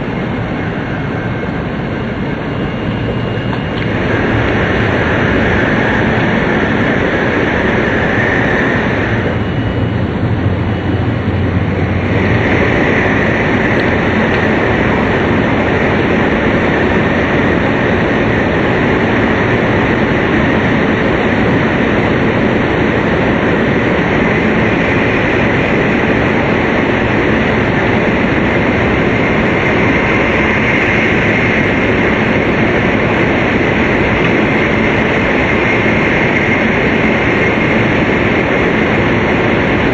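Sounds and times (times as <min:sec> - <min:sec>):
train cabin rushing rumble: 0:00.0 - 0:39.9.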